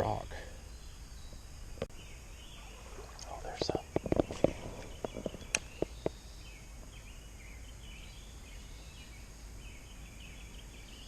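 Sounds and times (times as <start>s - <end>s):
faint bird chirping: 0.0s - 11.0s
steady outdoor hum: 0.0s - 11.0s.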